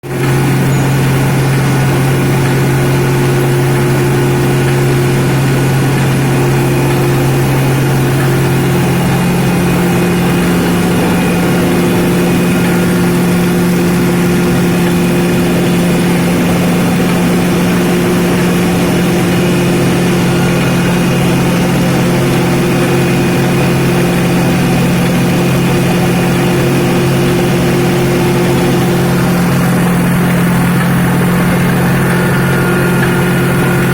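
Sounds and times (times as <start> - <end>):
higher hum: 0.0 - 33.9
milling machine hum: 0.0 - 33.9.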